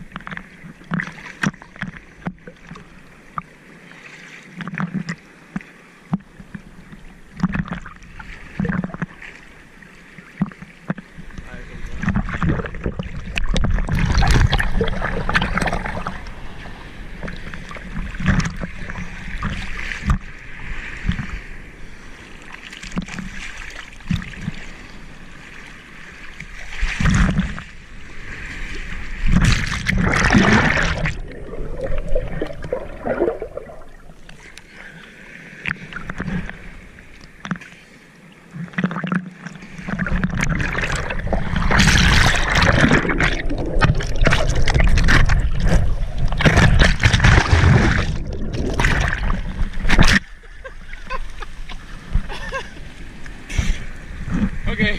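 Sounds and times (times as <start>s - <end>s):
sea water sloshing and splashing: 0.0s - 54.9s.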